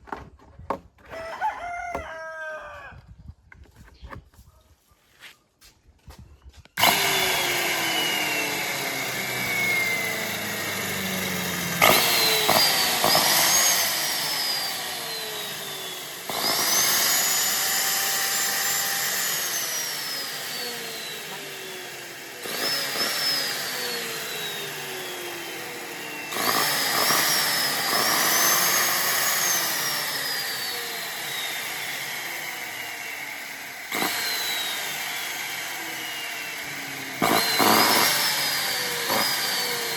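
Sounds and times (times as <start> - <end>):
power drill whining: 6.8 - 39.9.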